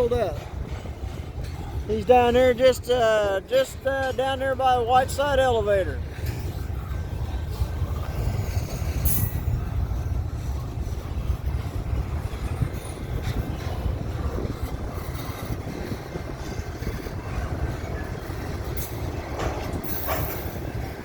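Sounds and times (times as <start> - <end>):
freight train rumbling by: 0.0 - 21.0.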